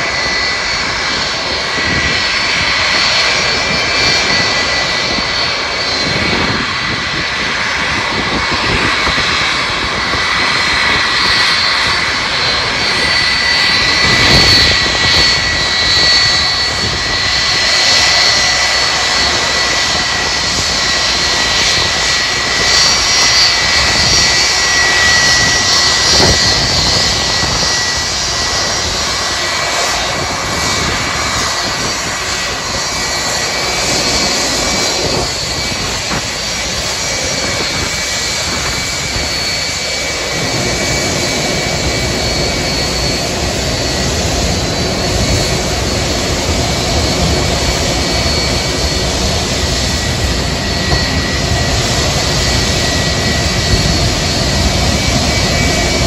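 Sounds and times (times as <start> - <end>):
jet engine roar with whine: 0.0 - 56.0.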